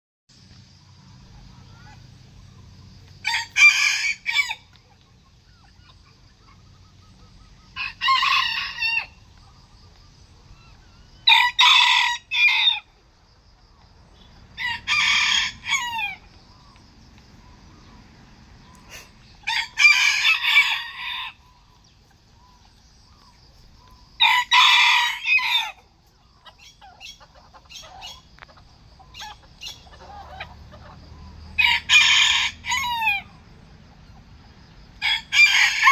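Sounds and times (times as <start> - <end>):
roosters crowing: 1.0 - 13.2, 14.1 - 35.9.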